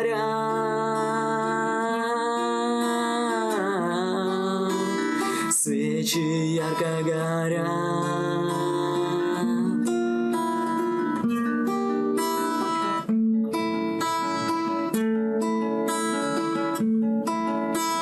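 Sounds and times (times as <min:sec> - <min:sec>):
fingerpicked acoustic guitar: 0:00.0 - 0:18.0.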